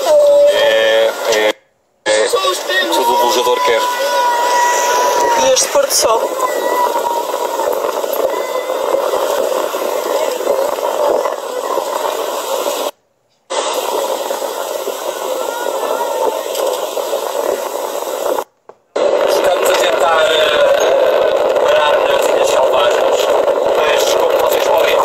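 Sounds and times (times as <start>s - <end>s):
wind and sea water rushing: 2.3s - 25.0s.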